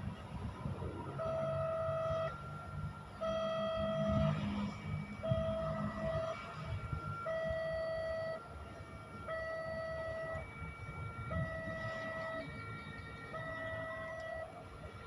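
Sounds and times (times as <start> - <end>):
two-tone electronic warning alarm: 0.0 - 15.0.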